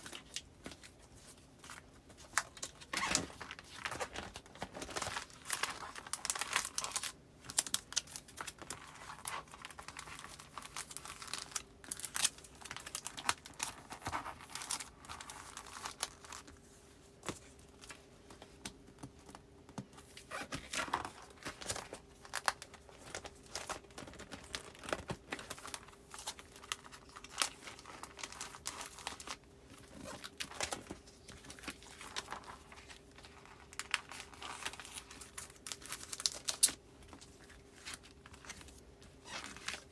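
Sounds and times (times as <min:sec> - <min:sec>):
plastic crinkling: 0:00.0 - 0:16.6, 0:17.2 - 0:39.9.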